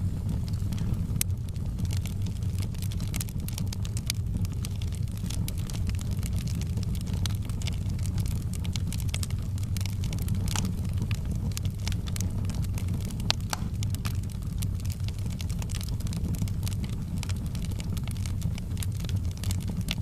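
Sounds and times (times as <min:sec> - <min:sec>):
low rumble: 0:00.0 - 0:20.0
wood fire crackling and popping: 0:00.0 - 0:20.0.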